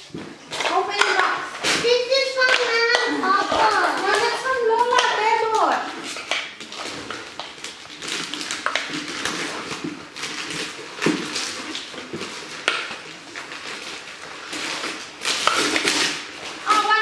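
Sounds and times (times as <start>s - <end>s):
wrapping paper rustling: 0.0s - 17.0s.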